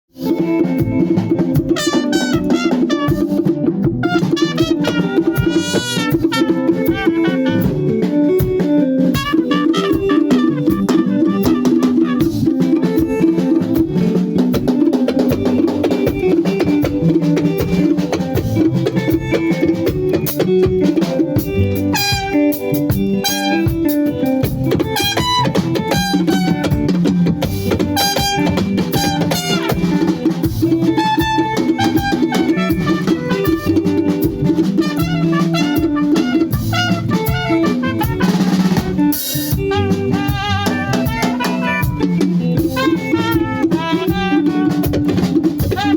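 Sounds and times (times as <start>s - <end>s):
band music: 0.1s - 45.9s
drum kit beat: 0.1s - 45.9s
lead melody with vibrato: 0.3s - 45.9s.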